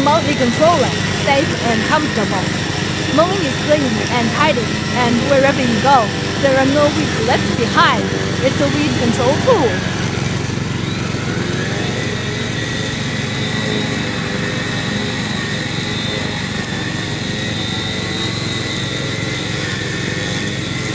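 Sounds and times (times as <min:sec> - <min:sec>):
lawn mower running: 0:00.0 - 0:20.9.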